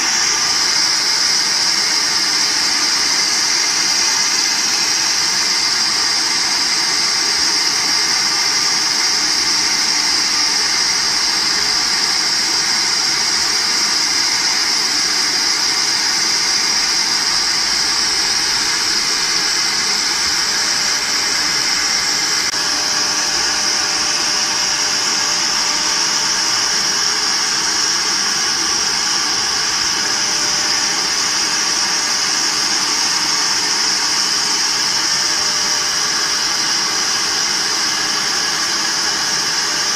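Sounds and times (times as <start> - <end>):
constant mechanical noise: 0.0 - 39.9
router spindles whining: 0.0 - 39.9.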